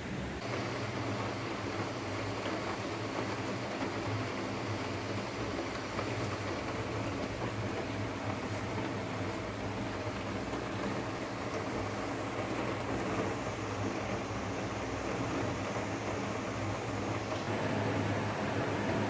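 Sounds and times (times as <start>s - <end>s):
rain pouring: 0.0s - 19.0s.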